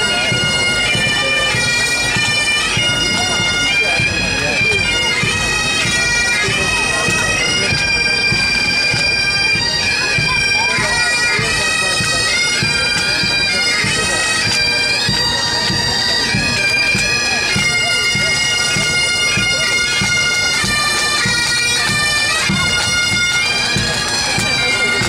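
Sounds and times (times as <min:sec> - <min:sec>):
bagpipes playing a march: 0:00.0 - 0:25.0
drums beating: 0:00.0 - 0:25.0.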